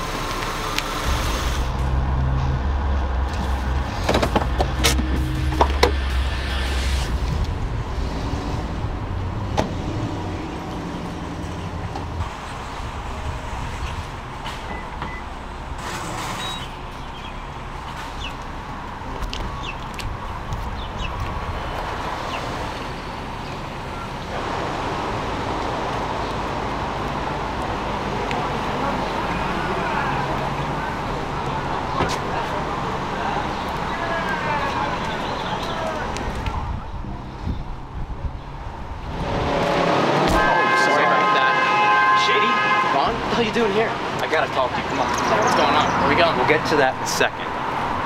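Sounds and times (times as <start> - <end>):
car engine rumble: 0.0 - 40.6
road traffic noise: 0.0 - 48.0.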